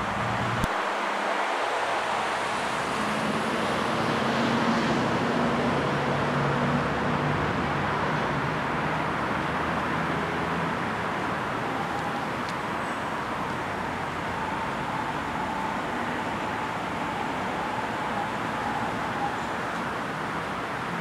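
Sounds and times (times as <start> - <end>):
road traffic hiss: 0.0 - 21.0.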